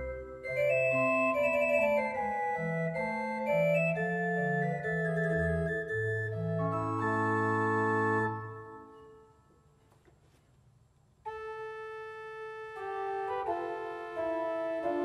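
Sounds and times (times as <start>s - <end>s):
pipe organ playing: 0.0s - 9.3s, 11.3s - 15.0s.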